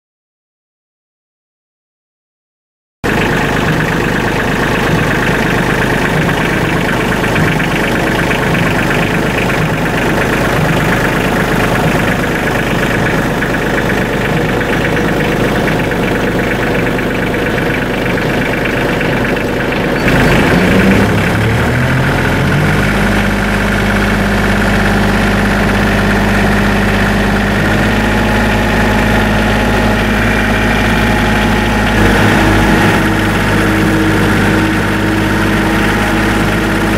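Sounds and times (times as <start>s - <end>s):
tractor diesel engine running: 3.0s - 36.9s.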